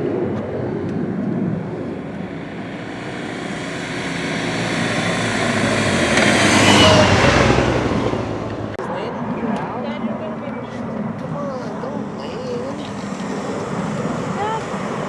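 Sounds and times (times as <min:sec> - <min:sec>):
airplane flying past: 0:00.0 - 0:15.0.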